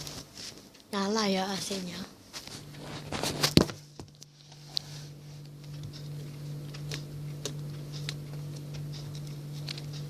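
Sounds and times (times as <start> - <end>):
air conditioner humming: 0.0 - 10.0.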